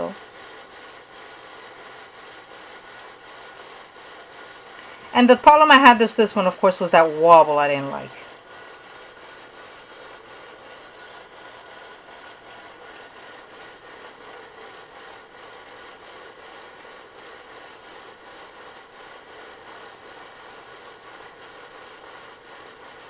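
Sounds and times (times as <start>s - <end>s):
fidget spinners whirring on wood: 0.0s - 23.0s.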